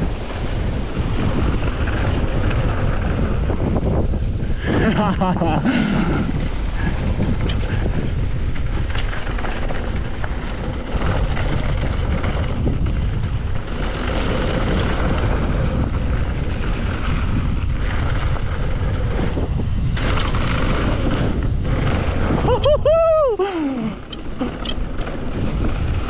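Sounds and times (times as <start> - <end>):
tyres rumbling on dirt: 0.0 - 26.0
wind buffeting microphone: 0.0 - 26.0.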